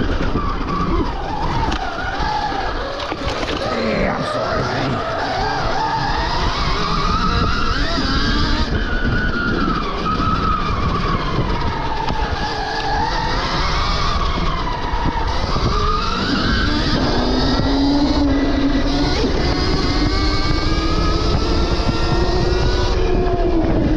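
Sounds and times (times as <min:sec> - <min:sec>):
electric motor whining: 0:00.0 - 0:23.9
loud steady rushing noise: 0:03.1 - 0:23.9.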